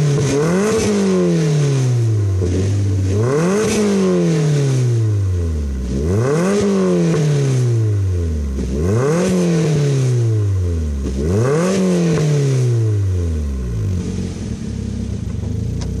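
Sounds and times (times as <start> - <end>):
car exhaust revving and idling: 0.0 - 16.0.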